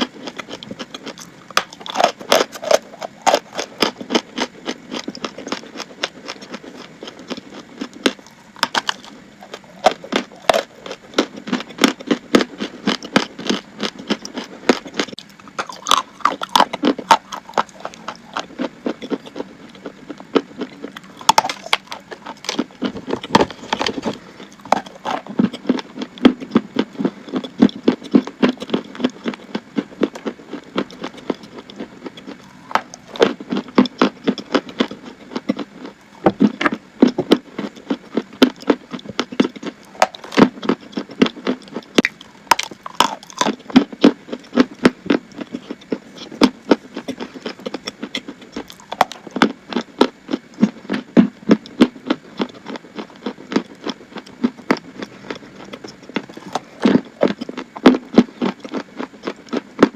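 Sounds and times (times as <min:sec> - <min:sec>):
chalk being chewed: 0:00.0 - 0:59.9.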